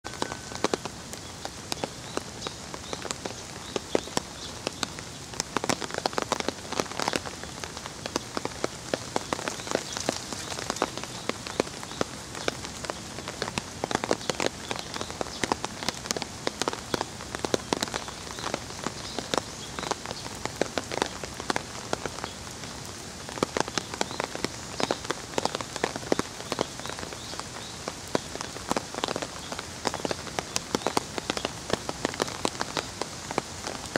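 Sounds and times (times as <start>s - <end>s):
raindrops ticking close by: 0.0s - 33.9s
steady rain falling: 0.0s - 33.9s.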